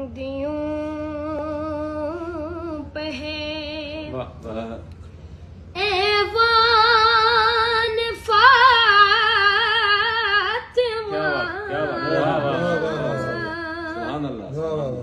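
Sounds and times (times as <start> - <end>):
woman singing with vibrato: 0.0 - 4.2, 5.8 - 14.2.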